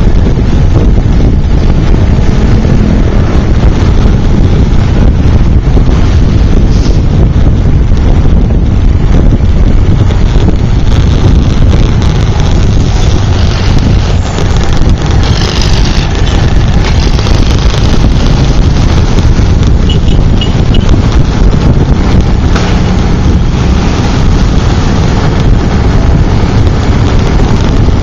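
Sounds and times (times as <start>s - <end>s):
motorcycle engine: 0.0s - 28.0s
road noise: 0.0s - 28.0s
wind buffeting on microphone: 0.0s - 28.0s.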